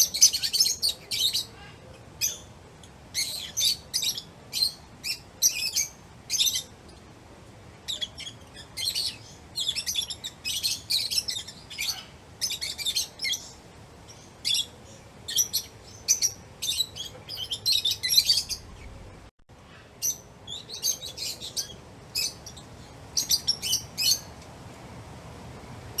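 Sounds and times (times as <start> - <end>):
lovebirds chirping: 0.0 - 25.0.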